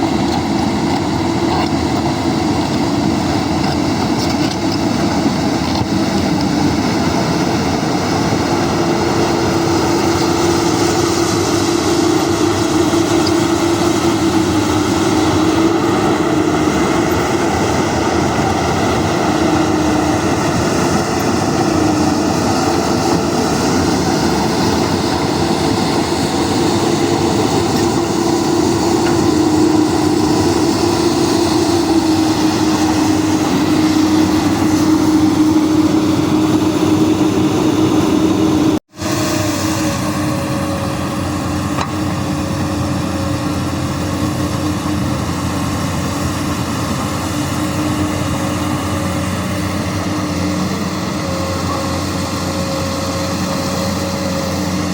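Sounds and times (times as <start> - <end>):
excavator diesel engine droning: 0.0 - 54.9.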